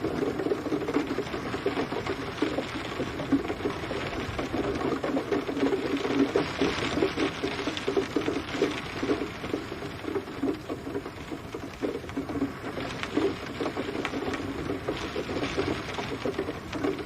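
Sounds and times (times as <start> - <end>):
rain drops tapping on a surface: 0.0 - 17.0.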